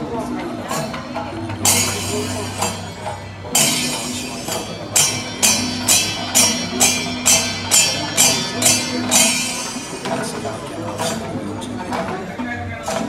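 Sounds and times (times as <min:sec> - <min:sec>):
hand cymbals clashing: 0:00.0 - 0:11.7
low steady drone: 0:00.0 - 0:12.4.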